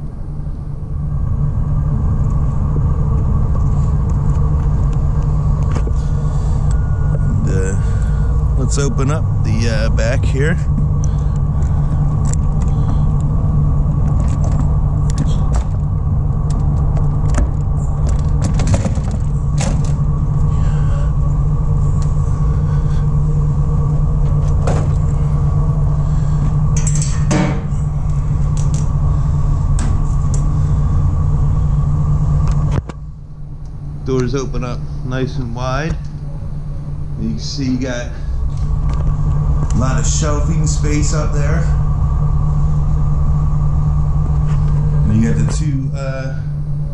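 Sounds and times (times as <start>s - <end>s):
faint steady whine: 0.0s - 46.9s
low mechanical hum: 0.0s - 46.9s.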